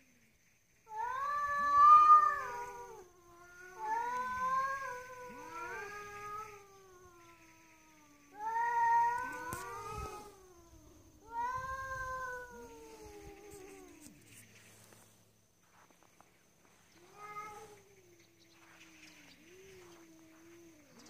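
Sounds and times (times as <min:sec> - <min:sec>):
cats yowling: 0:00.9 - 0:14.2, 0:17.0 - 0:21.0.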